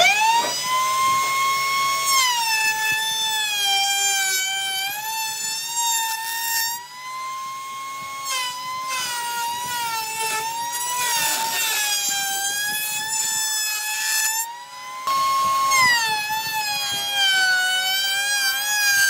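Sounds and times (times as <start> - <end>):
power tool motor whining: 0.0 - 19.0.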